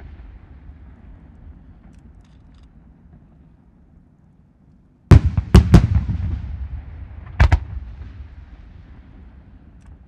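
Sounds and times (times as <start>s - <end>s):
low rolling echo: 0.0s - 10.0s.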